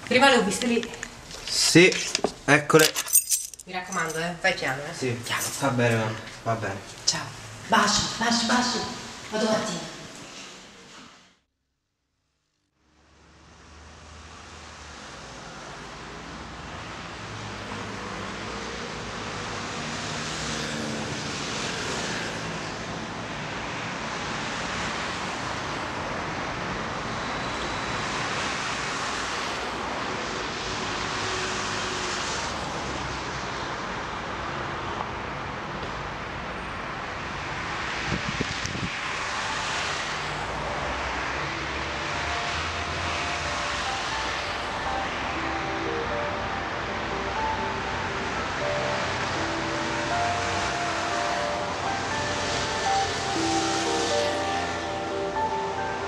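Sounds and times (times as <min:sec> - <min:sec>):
vehicles passing: 0:00.0 - 0:11.3, 0:12.8 - 0:56.0
road traffic: 0:00.0 - 0:11.4, 0:12.7 - 0:56.0.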